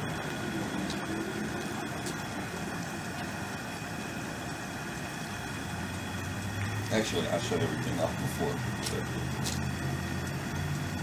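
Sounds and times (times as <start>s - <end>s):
gas burner rumbling: 0.0s - 11.0s.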